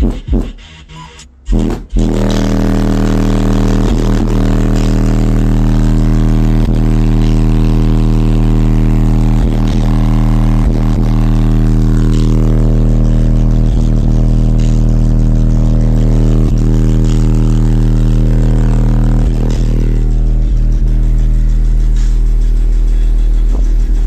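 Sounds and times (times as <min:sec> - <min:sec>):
short subwoofer thumps: 0:00.0 - 0:00.6, 0:01.5 - 0:24.0
loud bass test tone: 0:01.5 - 0:24.0.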